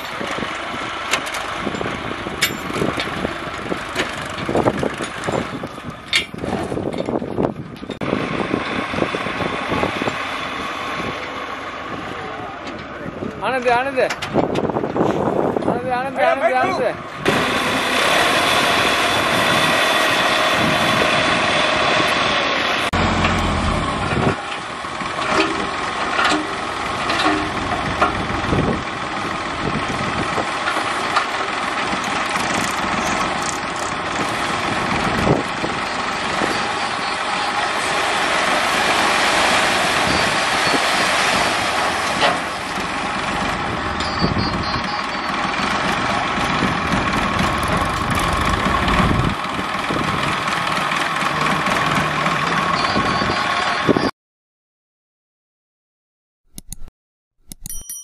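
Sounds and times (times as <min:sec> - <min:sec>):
tractor diesel engine running: 0:00.0 - 0:15.8, 0:16.4 - 0:54.1.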